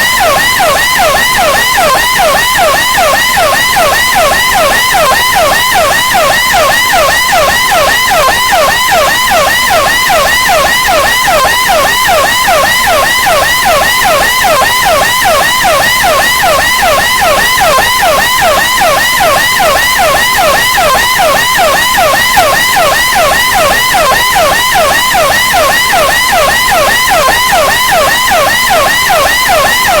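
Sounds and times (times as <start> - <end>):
siren wailing fast: 0.0 - 30.0.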